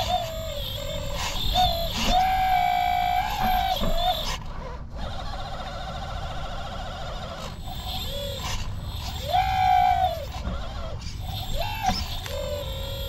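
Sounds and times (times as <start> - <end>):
electric hydraulic pump whining: 0.0 - 13.0.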